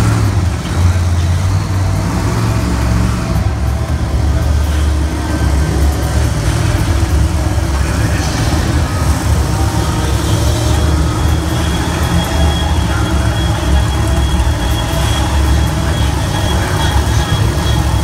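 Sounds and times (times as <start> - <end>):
monster truck engines running: 0.0 - 18.0.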